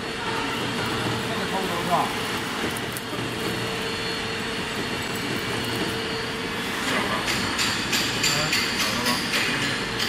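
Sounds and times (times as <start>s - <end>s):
mixing mill mechanical drone: 0.0s - 10.0s.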